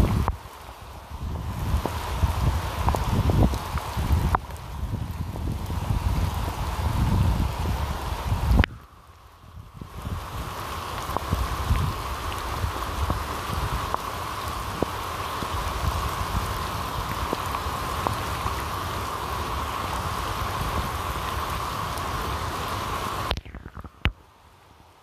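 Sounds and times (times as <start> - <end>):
raindrops ticking close by: 0.0 - 25.0
steady rain falling: 0.0 - 25.0.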